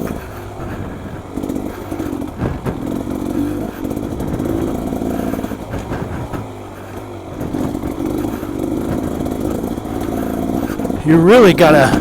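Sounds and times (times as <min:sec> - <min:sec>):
dirt bike engine riding: 0:00.0 - 0:12.0.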